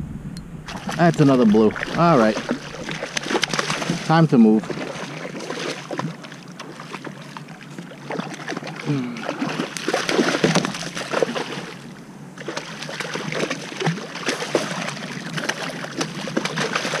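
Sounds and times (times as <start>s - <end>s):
fish splashing in water: 0.7s - 17.0s.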